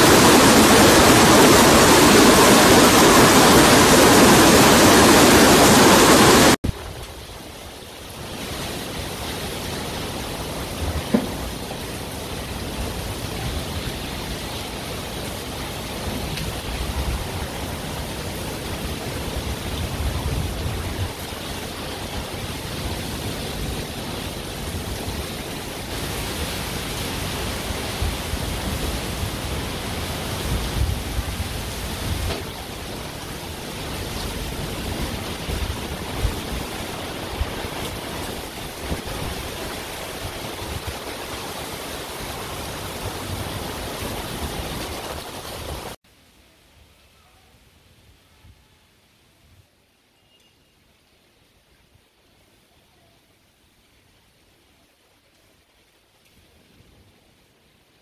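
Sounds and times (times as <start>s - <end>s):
heavy rain hissing: 0.0s - 47.1s.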